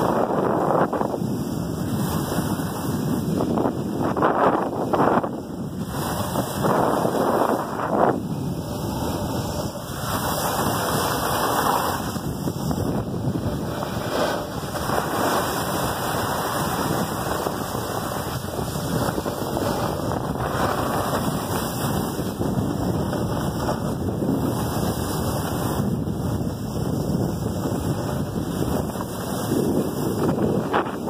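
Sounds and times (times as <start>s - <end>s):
skis sliding on packed snow: 0.0s - 31.0s
wind rushing on microphone: 0.0s - 31.0s.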